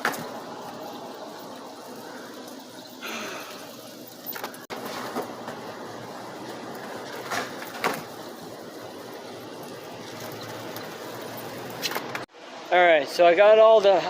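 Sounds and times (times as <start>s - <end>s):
skateboard wheels rolling on pavement: 0.0s - 2.9s, 3.6s - 12.3s.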